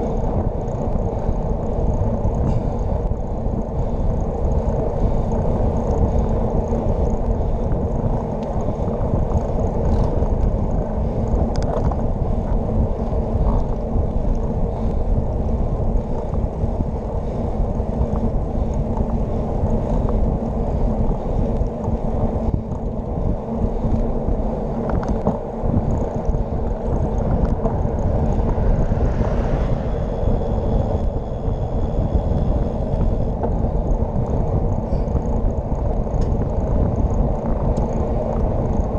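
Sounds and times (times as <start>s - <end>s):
tyres humming on wet asphalt: 0.0s - 38.9s
wind buffeting microphone: 0.0s - 38.9s.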